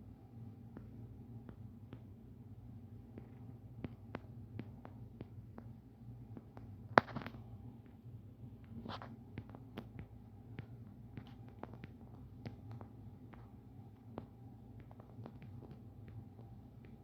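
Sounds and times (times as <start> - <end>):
steady low hum: 0.0 - 17.0
small clicks and taps: 0.7 - 2.1, 3.1 - 17.0.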